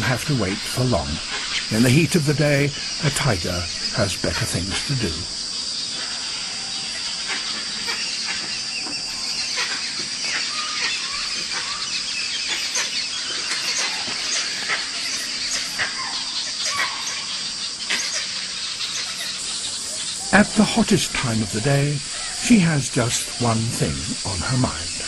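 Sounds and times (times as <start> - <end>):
bird calls and chirps: 0.0 - 25.0
high-pitched insect drone: 0.0 - 25.0.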